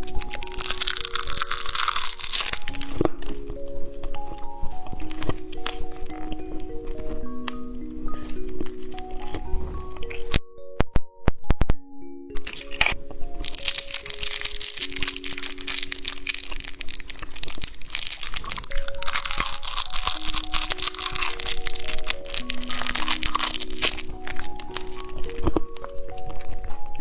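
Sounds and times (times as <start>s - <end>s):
candy crackling and crunching: 0.0s - 10.4s, 12.4s - 27.0s
slow simple background music: 0.0s - 27.0s.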